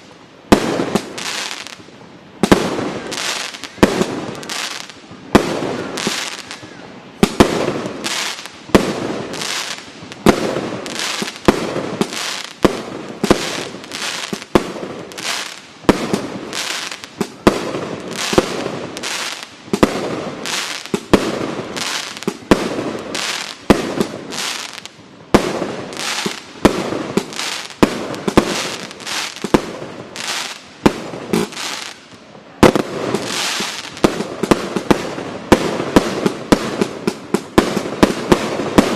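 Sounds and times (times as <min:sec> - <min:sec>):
firework cake bangs and hisses: 0:00.0 - 0:01.8, 0:02.4 - 0:38.9.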